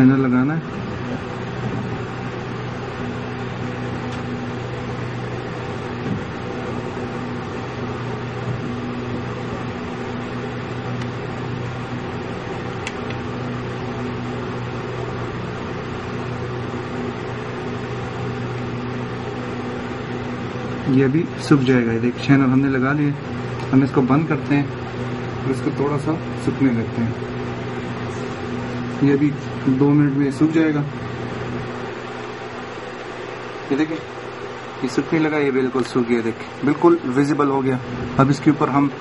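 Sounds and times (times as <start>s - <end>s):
appliance motor humming: 0.0s - 39.0s.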